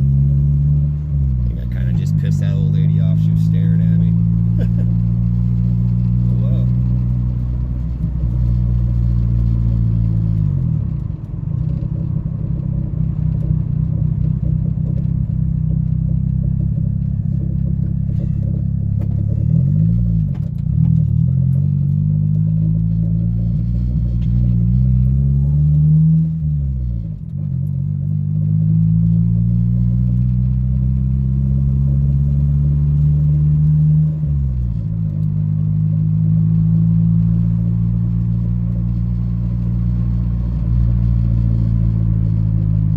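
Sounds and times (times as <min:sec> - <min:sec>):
car engine while driving: 0:00.0 - 0:42.9.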